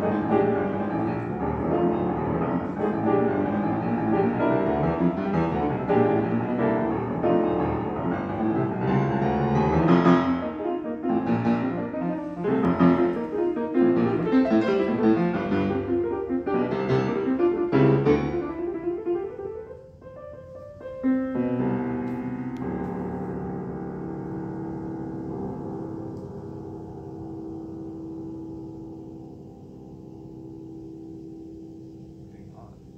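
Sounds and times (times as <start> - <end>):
grand piano playing loud chords: 0.0 - 32.9.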